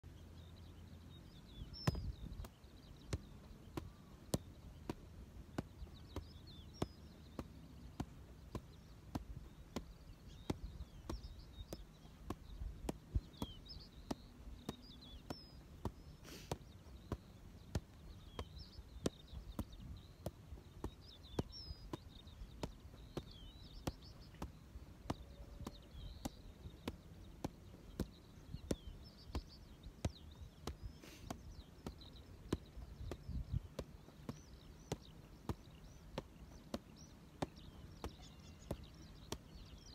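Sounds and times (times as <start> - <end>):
ball juggling thuds: 1.4 - 39.9.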